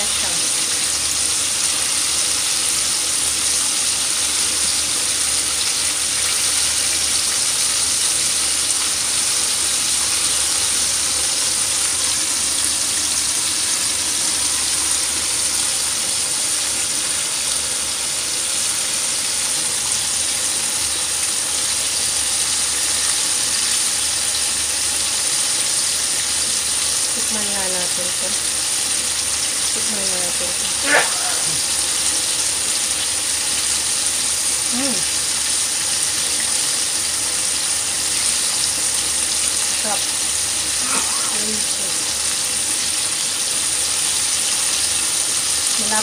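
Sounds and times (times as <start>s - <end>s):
chicken frying in hot oil: 0.0s - 46.0s.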